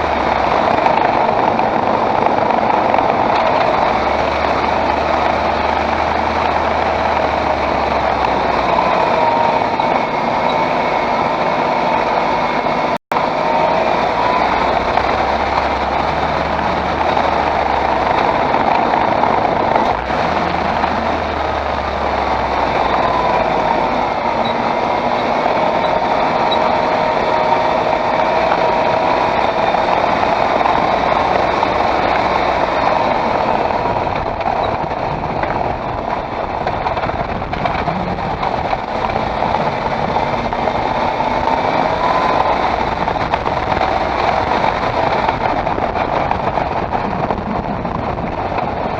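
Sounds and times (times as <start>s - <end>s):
car engine running: 0.0s - 48.9s
pitched gearbox hum: 0.0s - 48.9s.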